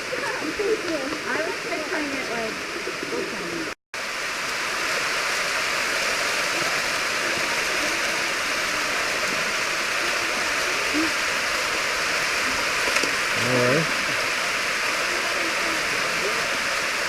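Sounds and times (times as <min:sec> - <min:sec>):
waterfall pouring over rock: 0:00.0 - 0:17.0.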